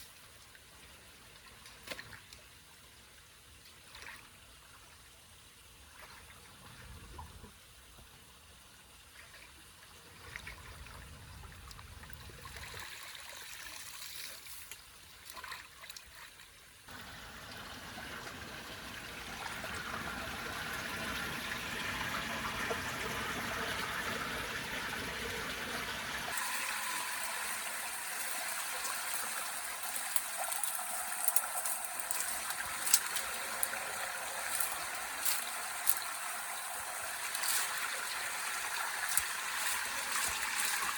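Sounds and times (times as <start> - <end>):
water flowing into a drain: 3.8 - 40.9.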